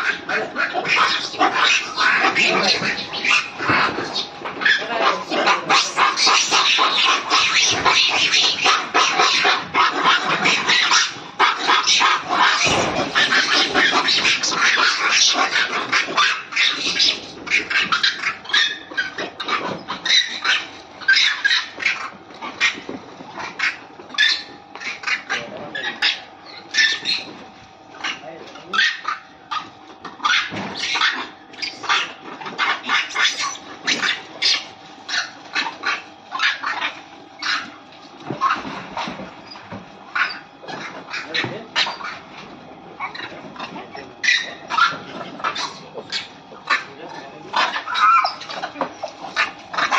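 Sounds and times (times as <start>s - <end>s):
sharp animal cries and yelps: 0.0s - 22.8s, 23.4s - 27.4s, 28.0s - 37.8s, 38.4s - 42.2s, 43.0s - 46.9s, 47.5s - 49.9s
dogs barking and growling: 0.0s - 49.9s.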